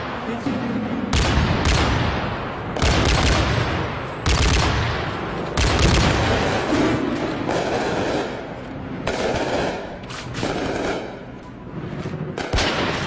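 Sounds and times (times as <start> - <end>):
gunfire bursts with echo: 1.1 - 11.4, 12.3 - 13.0.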